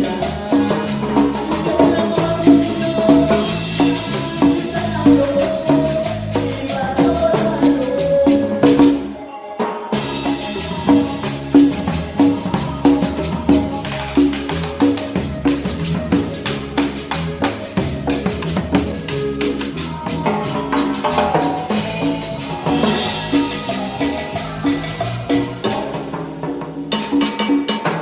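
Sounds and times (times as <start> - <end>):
repeating bass line: 0.0 - 9.2, 10.0 - 27.2
timbales and drums: 0.0 - 9.2, 9.9 - 28.0.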